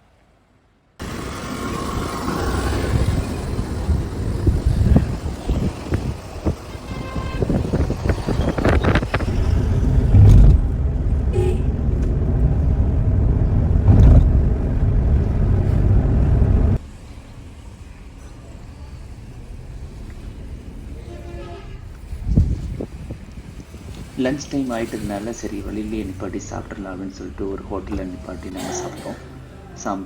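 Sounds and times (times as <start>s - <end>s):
vehicle road rumble: 1.0s - 30.0s.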